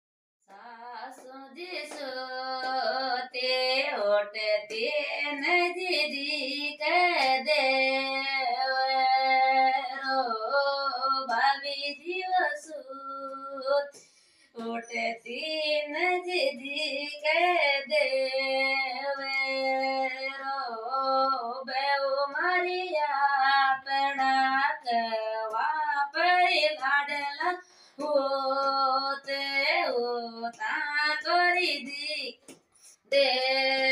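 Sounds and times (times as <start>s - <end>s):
woman singing devotional song: 0.5s - 33.9s.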